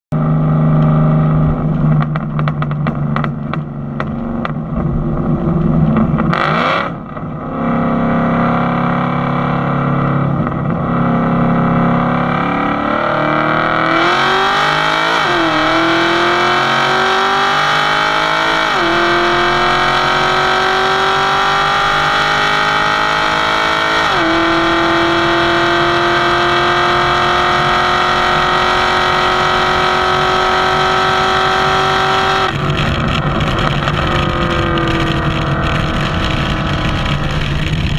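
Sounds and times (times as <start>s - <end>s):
car engine accelerating: 0.1s - 37.9s.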